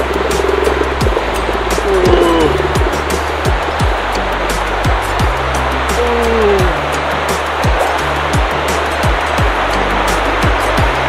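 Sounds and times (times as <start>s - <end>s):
music with kick drum and bass: 0.0s - 11.0s.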